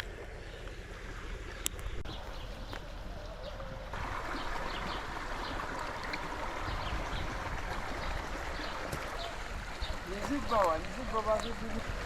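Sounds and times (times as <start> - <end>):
river water rushing: 2.3 - 12.0.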